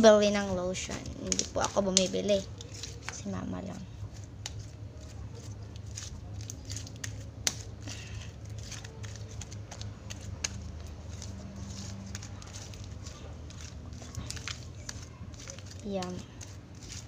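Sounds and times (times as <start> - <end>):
slime kneaded by hand: 0.1 - 17.0.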